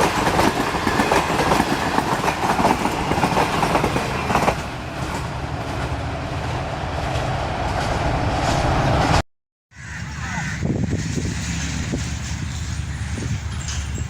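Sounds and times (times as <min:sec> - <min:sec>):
train wheels rumbling on rails: 0:00.0 - 0:09.2, 0:09.8 - 0:14.0.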